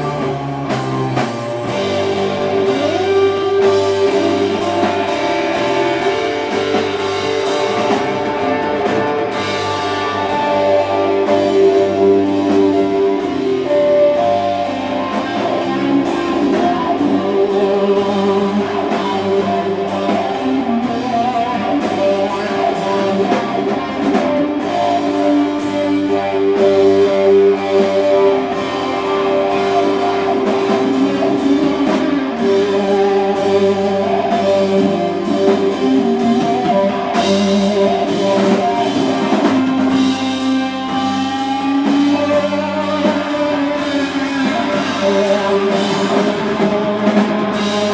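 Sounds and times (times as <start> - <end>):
drum kit: 0.0 - 47.9
electric guitars: 0.0 - 47.9.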